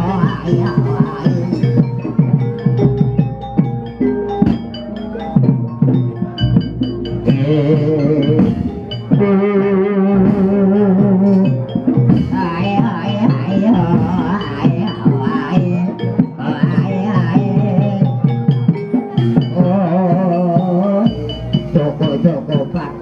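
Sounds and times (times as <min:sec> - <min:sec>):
hand drum strokes: 0:00.0 - 0:23.0
struck metallophone notes: 0:00.0 - 0:23.0.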